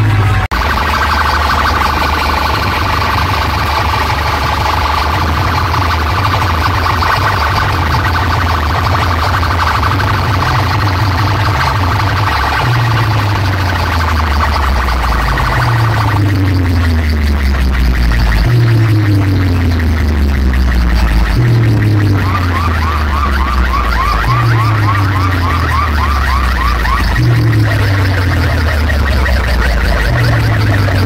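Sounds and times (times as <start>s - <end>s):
heavy bass line: 0.0s - 31.0s
siren-like synth tone: 0.0s - 31.0s.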